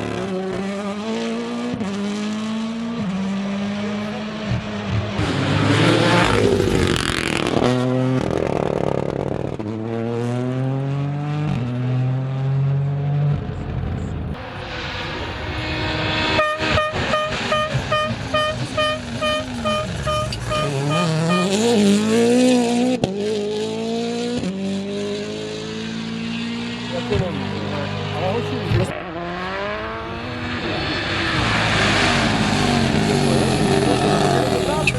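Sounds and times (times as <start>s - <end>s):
rally car engines revving: 0.0s - 34.9s.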